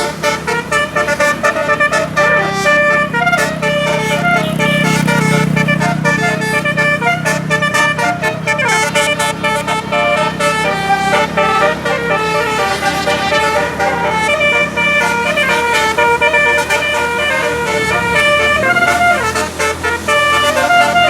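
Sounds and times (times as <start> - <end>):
musical air horns playing melody: 0.0 - 21.0.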